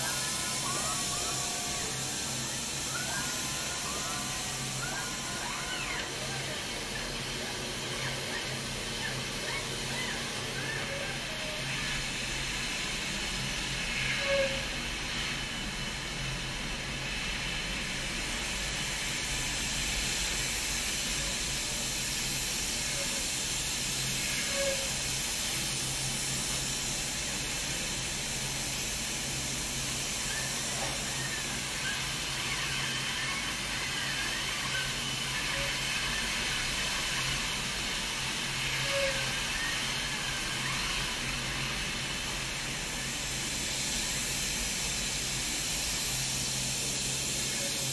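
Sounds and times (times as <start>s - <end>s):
paint spray hiss: 0.0s - 47.9s.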